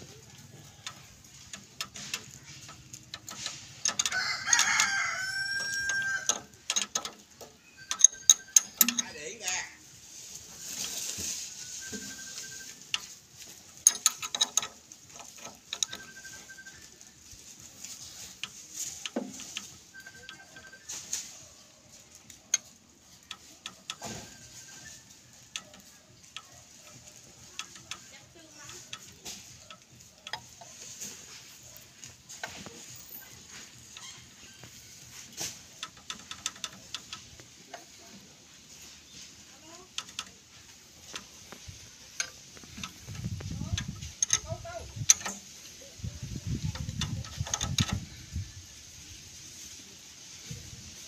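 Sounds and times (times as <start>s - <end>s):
spanner clicking and scraping on metal: 0.0s - 11.3s, 11.9s - 16.8s, 17.6s - 21.3s, 22.2s - 38.2s, 39.1s - 48.4s.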